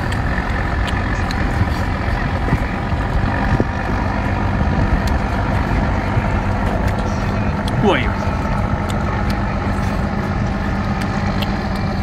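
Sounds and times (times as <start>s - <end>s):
engine idling drone: 0.0s - 12.0s.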